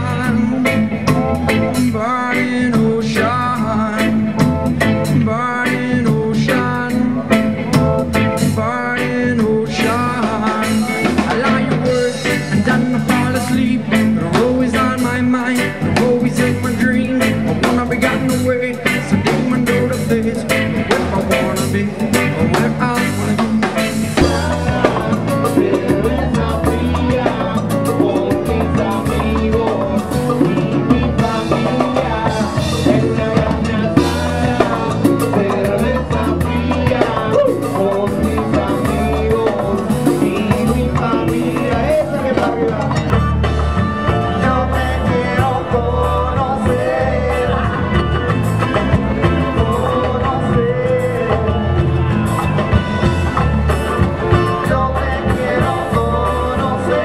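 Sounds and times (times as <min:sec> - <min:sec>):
congas: 0:00.0 - 0:57.0
heavy bass beat: 0:00.0 - 0:57.0
live band music: 0:00.0 - 0:57.0.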